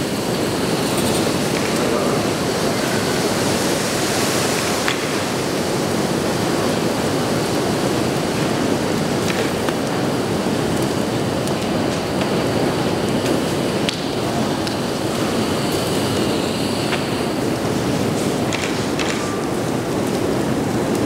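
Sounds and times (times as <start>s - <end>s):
faint fire crackle: 0.0s - 21.0s
roar of fire: 0.0s - 21.0s.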